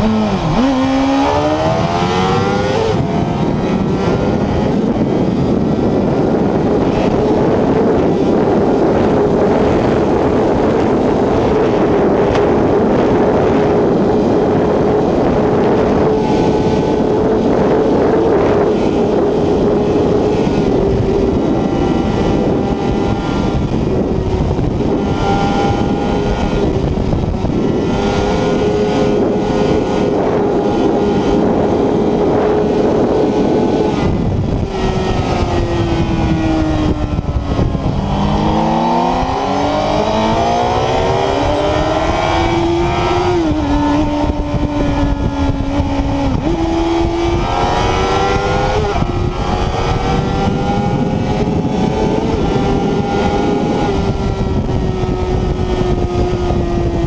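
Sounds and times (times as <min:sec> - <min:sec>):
motorcycle engine at high speed: 0:00.0 - 0:57.0
wind rush on microphone: 0:00.0 - 0:57.0.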